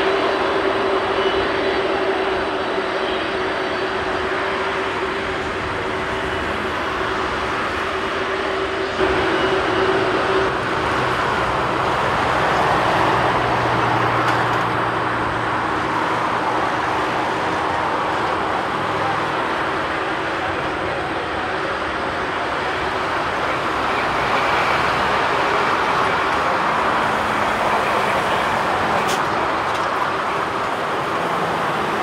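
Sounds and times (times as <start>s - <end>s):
jet engines at takeoff power: 0.0s - 32.0s.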